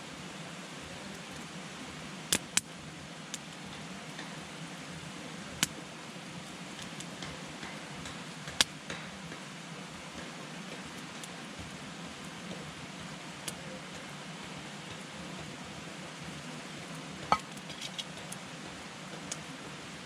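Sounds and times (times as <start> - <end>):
campfire hissing: 0.0 - 20.0
wood crackling and popping: 2.3 - 4.6, 5.6 - 19.6.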